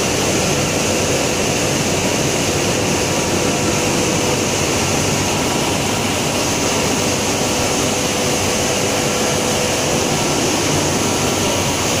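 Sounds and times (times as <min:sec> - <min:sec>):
loud steady machinery noise: 0:00.0 - 0:12.0.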